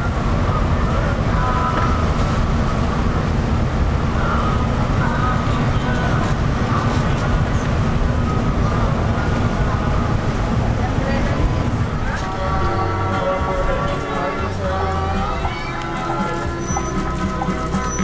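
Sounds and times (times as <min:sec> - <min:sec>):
coach engine low rumble: 0:00.0 - 0:18.0.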